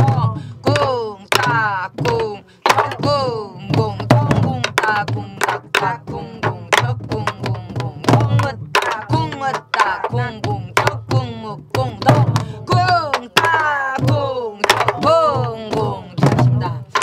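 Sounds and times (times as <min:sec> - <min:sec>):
barrel drums cracking and booming: 0:00.0 - 0:17.0
woman chanting: 0:00.0 - 0:17.0.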